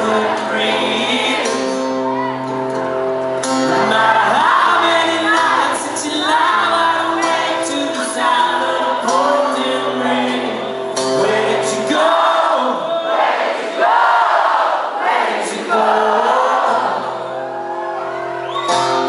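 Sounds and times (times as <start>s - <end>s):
live rock music: 0.0s - 12.9s, 15.5s - 19.0s
person singing: 0.0s - 13.2s, 15.4s - 17.5s
audience singing along: 0.0s - 17.9s.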